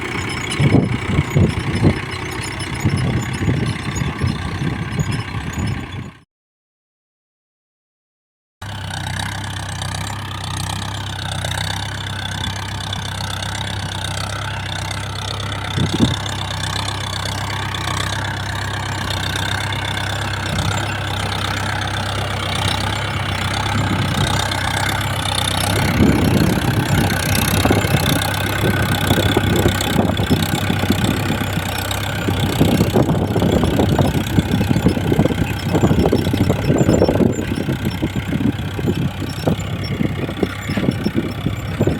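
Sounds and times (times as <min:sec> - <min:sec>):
rough rattling crackle: 0:00.0 - 0:06.0, 0:11.5 - 0:41.9
tractor diesel engine running: 0:00.0 - 0:06.2, 0:08.6 - 0:41.9.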